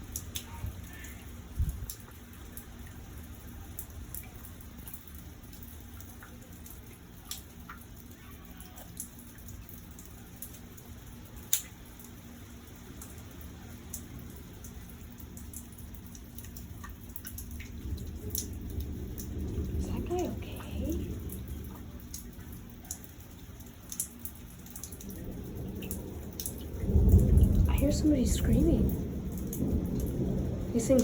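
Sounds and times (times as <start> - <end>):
low rumble of storm: 0.0 - 31.0
raindrops ticking on hard surface: 0.0 - 31.0.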